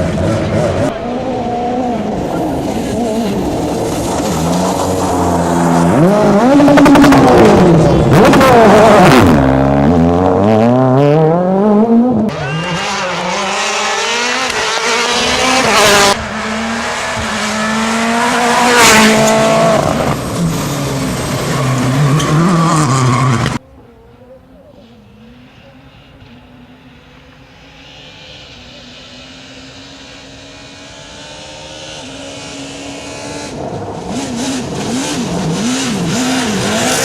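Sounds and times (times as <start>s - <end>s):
rally car engines revving: 0.0s - 23.6s, 24.7s - 37.0s.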